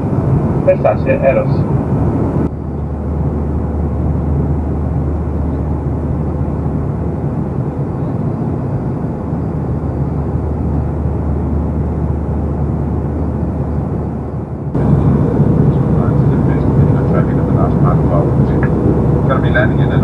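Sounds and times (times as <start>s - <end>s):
airflow rushing: 0.0s - 20.0s
constant low hum: 0.0s - 20.0s
jet engines droning: 0.0s - 20.0s.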